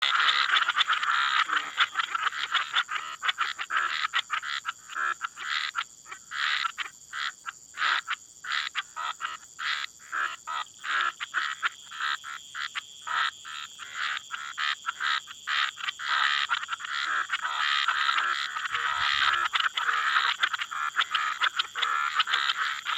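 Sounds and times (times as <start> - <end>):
frogs and toads croaking: 0.0 - 22.9.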